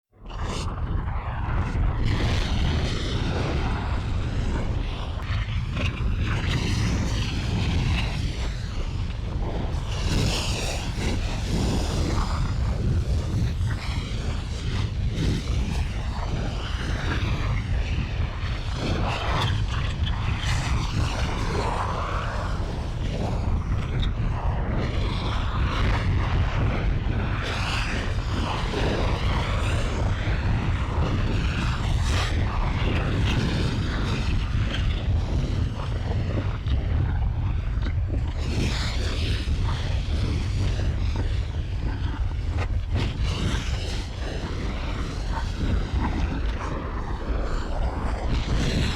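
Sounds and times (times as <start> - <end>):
deep rumble: 0.2 - 48.9.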